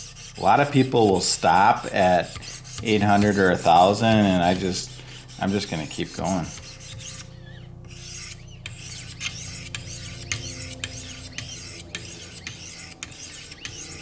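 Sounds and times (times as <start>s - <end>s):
faint steady hum: 0.0s - 14.0s
sharpening stone scraping knife blade: 0.0s - 14.0s.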